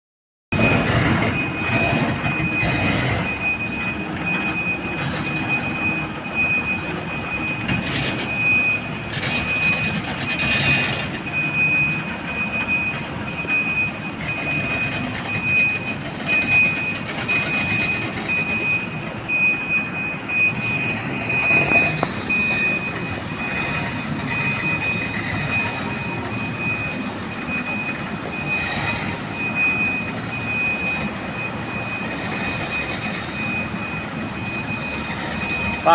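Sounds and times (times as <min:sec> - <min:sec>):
back-up alarm beeps: 0:00.5 - 0:35.9
heavy diesel engines working: 0:00.5 - 0:35.9.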